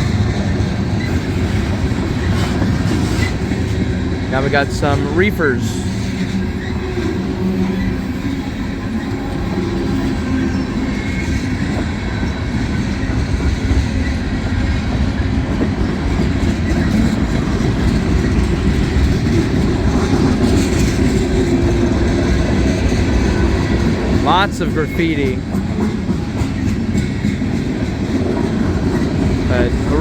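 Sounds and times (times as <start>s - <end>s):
freight train wheels rumbling on rails: 0.0s - 30.0s.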